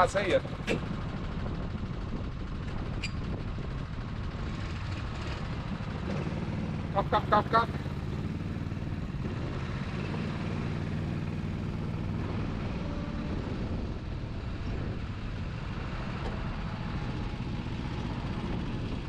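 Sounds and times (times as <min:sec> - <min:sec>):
go-kart engines running: 0:00.0 - 0:19.0
wind buffeting microphone: 0:00.0 - 0:19.0.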